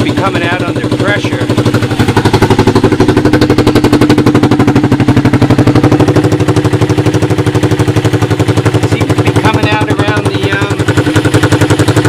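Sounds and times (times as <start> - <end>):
atv engine idling: 0.0 - 12.0.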